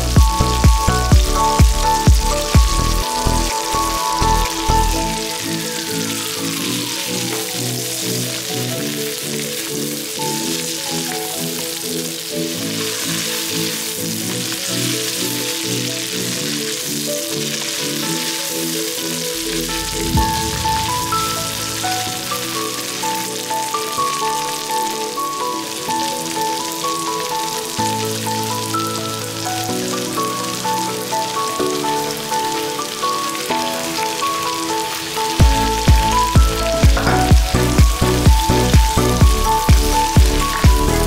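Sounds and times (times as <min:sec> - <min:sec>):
plucked background music: 0:00.0 - 0:41.0
food sizzling in a frying pan: 0:00.3 - 0:40.9.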